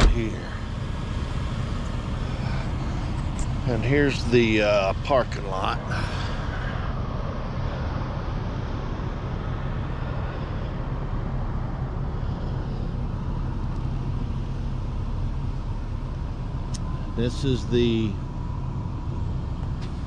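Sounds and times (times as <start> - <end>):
low rumble of motor vehicles: 0.0 - 20.0.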